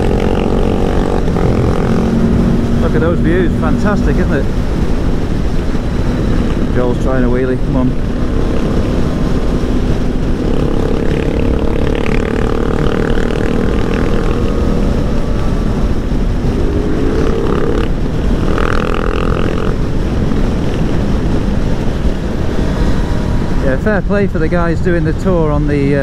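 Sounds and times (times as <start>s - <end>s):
motorcycle engine accelerating: 0.0s - 24.0s
wind rush: 0.0s - 26.0s.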